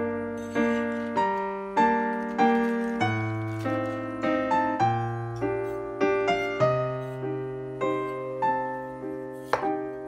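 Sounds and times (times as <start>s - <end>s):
slow gentle piano melody: 0.0s - 10.0s.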